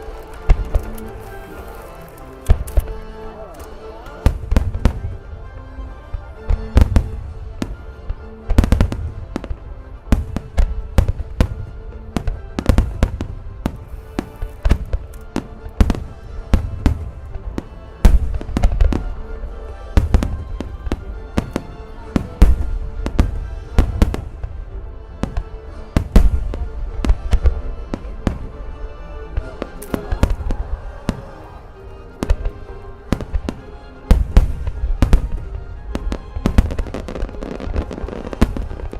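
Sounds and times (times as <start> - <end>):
music with held notes: 0.0 - 38.9.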